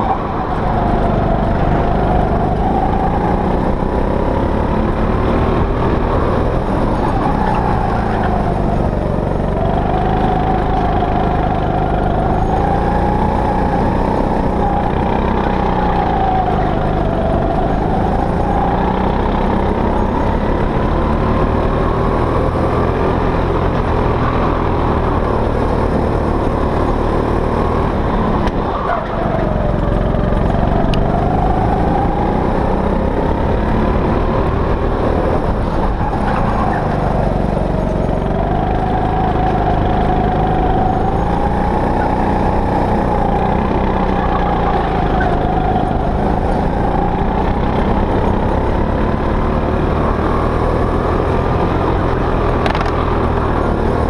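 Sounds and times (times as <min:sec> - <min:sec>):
go-kart engine: 0:00.0 - 0:54.0.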